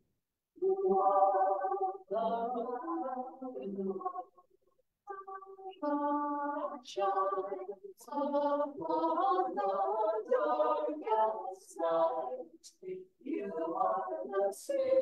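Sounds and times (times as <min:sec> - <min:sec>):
choir singing unaccompanied: 0:00.6 - 0:04.3, 0:05.1 - 0:15.0.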